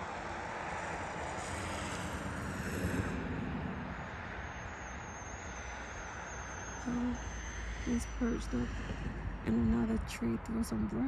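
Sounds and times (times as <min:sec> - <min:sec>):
rushing noise with low rumble: 0:00.0 - 0:11.0.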